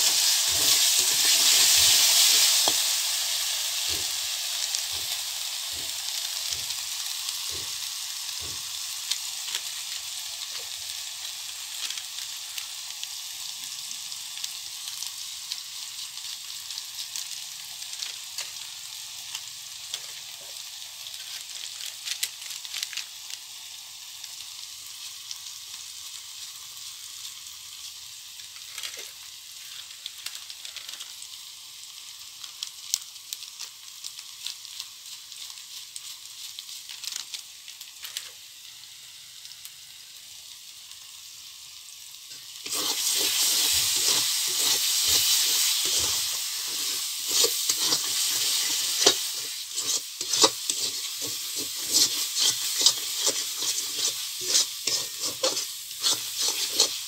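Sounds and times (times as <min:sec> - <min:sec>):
paste sizzling in hot oil: 0:00.0 - 0:57.0.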